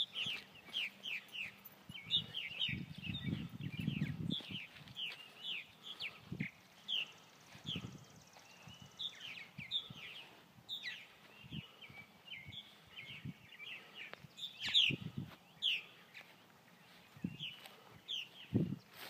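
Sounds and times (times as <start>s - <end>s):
birds chirping and chattering: 0.0s - 19.0s.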